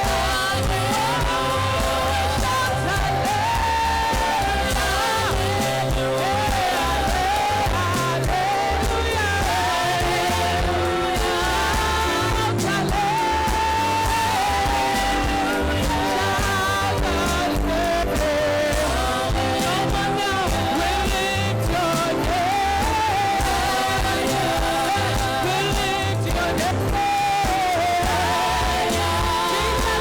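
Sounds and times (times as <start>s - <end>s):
band with bass and drums: 0.0s - 30.0s
person singing long notes: 0.0s - 30.0s.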